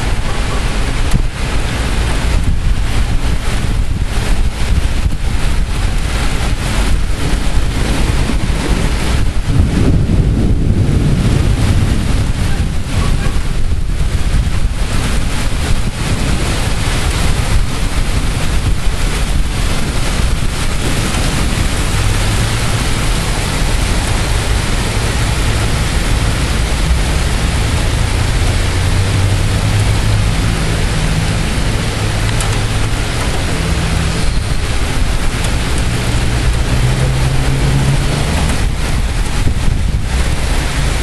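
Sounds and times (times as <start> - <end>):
heavy rain: 0.0 - 41.0
wind gusts buffeting microphone: 0.0 - 41.0.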